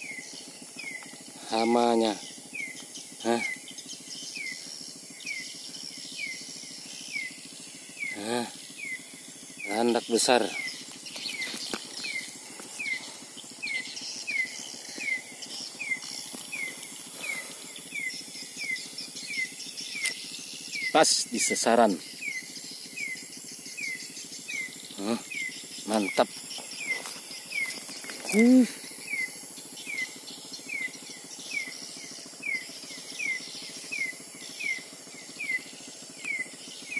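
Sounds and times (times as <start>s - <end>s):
cricket-like trill: 0.0s - 36.9s.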